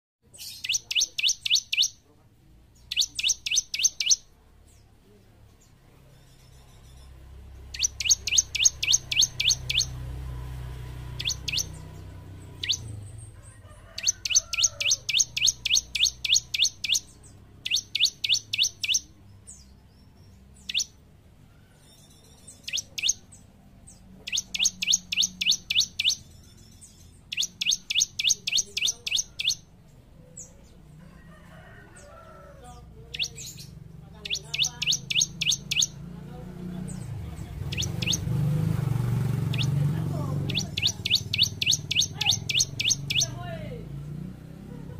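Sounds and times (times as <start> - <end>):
bird singing rapid trills: 0.3 - 2.0, 2.8 - 4.9, 5.6 - 30.9, 32.8 - 43.8.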